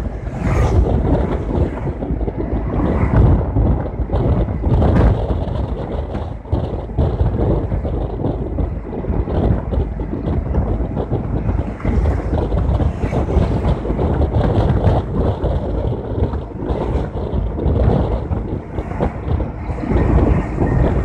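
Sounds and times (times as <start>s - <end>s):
road traffic passing: 0.0s - 21.0s
wind buffeting microphone: 0.0s - 21.0s.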